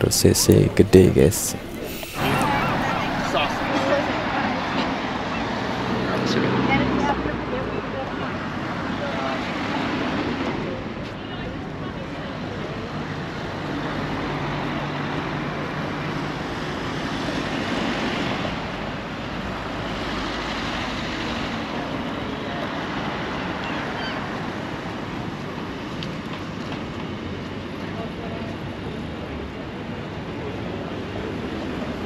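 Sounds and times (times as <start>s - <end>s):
street traffic rush: 0.0s - 11.8s, 12.4s - 27.8s.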